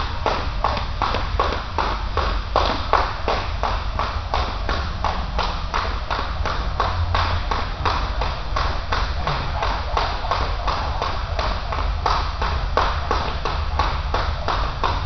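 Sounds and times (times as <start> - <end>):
jump rope slapping floor: 0.0 - 15.0
sneakers landing on floor: 0.0 - 15.0
steady low hum: 0.0 - 15.0.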